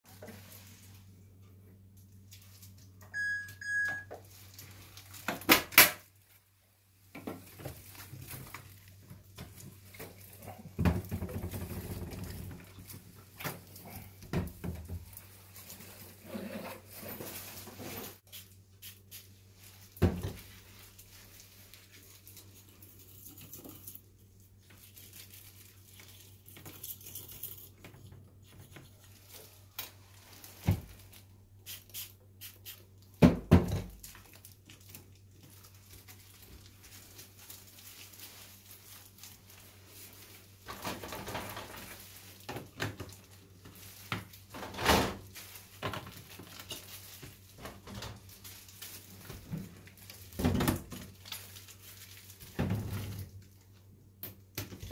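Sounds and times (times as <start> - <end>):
rustling: 6.0 - 33.0, 33.9 - 53.9.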